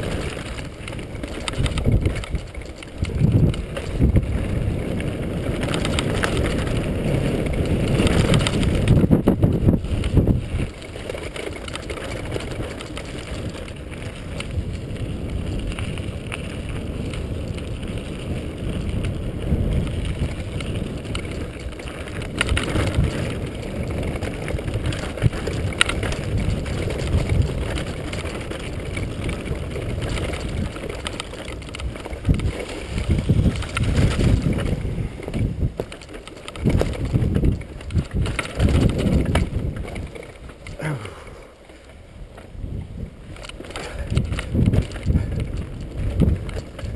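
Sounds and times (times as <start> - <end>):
bike rattles and knocks: 0.0 - 46.9
bike tyres rumbling over stones: 0.0 - 46.9.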